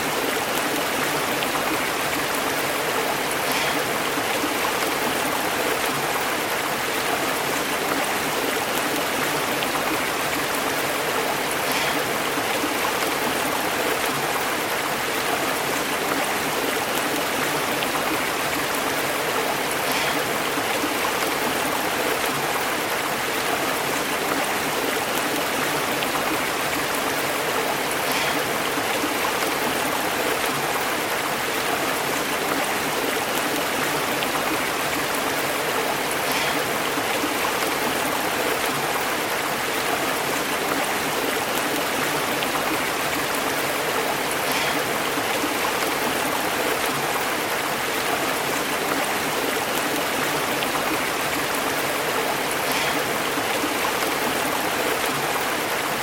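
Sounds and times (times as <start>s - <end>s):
small water splashes: 0.0s - 56.0s
stream water burbling over rocks: 0.0s - 56.0s.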